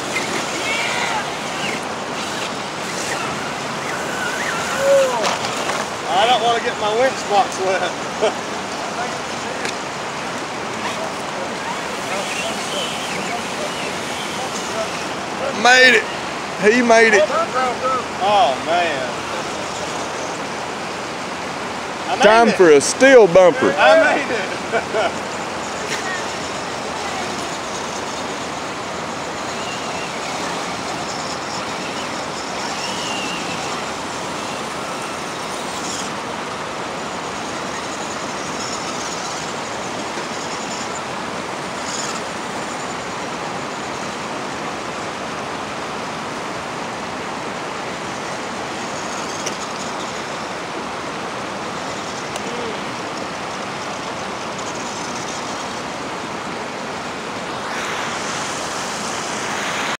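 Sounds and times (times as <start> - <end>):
river water rushing over rocks: 0.0 - 60.0.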